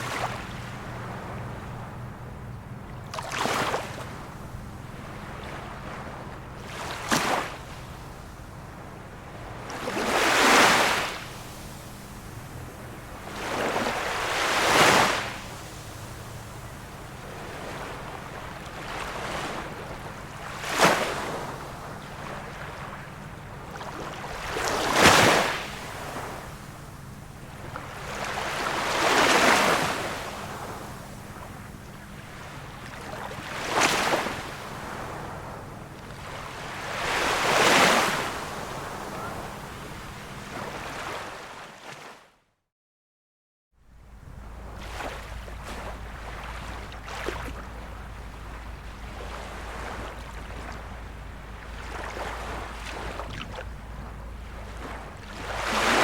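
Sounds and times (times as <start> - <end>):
small sea waves washing in: 3.0 - 42.2, 44.1 - 56.0.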